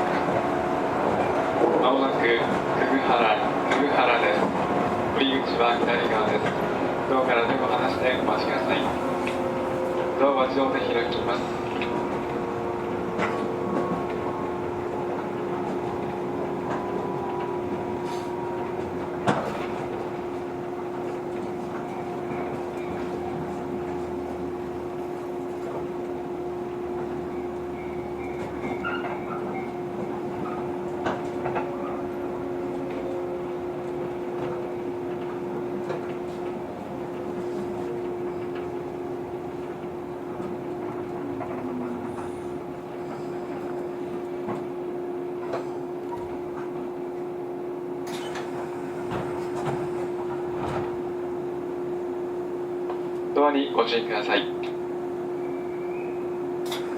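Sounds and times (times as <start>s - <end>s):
train electrical hum: 0.0s - 56.9s.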